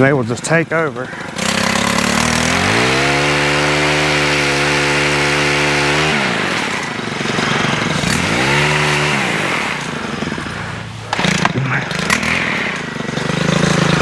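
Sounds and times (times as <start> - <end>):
pole saw engine revving: 0.0 - 14.0.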